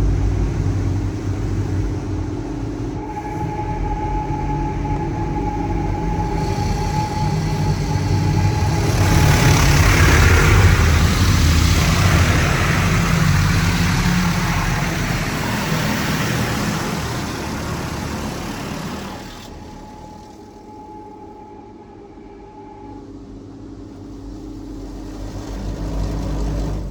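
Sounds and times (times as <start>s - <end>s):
car wash machinery rushing: 0.0s - 20.8s, 23.9s - 26.9s.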